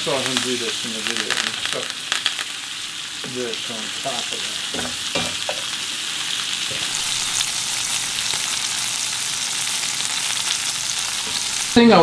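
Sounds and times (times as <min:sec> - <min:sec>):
meat sizzling in butter: 0:00.0 - 0:12.0.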